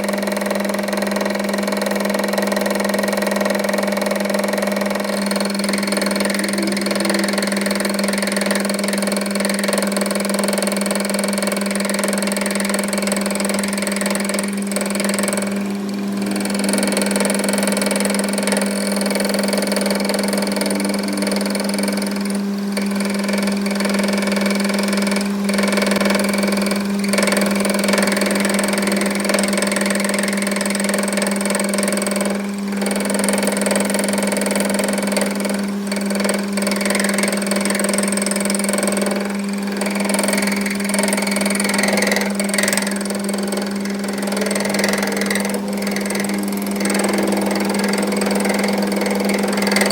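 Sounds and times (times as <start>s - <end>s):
machine motor humming: 0.0s - 49.9s.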